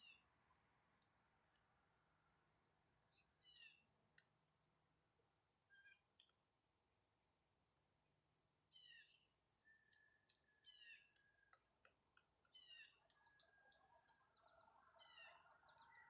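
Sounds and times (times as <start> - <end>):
faint woodpecker calls: 0.0 - 2.4, 3.0 - 16.0.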